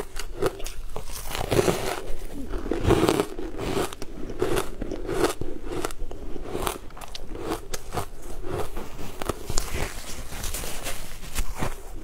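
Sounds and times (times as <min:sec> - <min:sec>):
chewing crunchy ice: 0:00.0 - 0:10.6.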